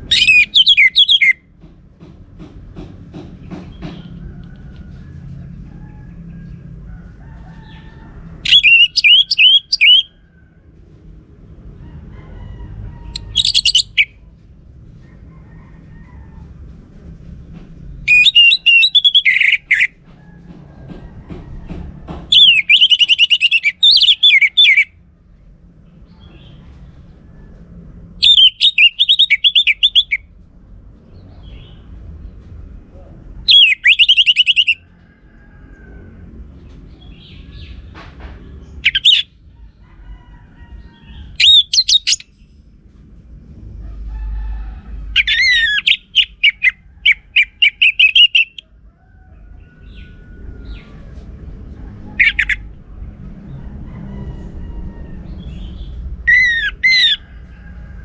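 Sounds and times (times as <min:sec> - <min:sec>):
low steady rumble: 0:00.0 - 0:58.0.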